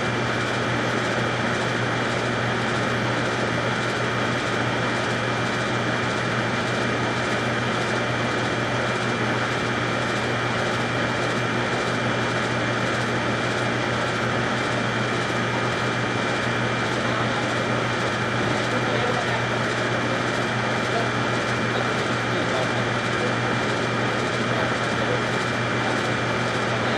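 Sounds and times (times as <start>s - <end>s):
machine hum: 0.0s - 26.9s.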